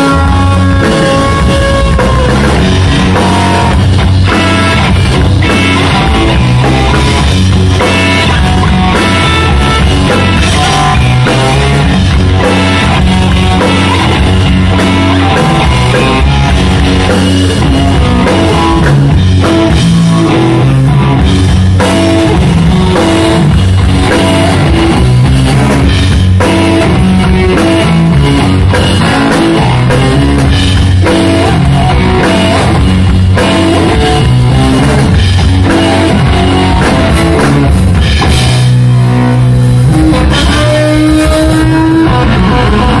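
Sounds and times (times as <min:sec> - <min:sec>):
bass guitar: 0:00.0 - 0:43.0
drum kit: 0:00.0 - 0:43.0
electric guitar: 0:00.0 - 0:43.0.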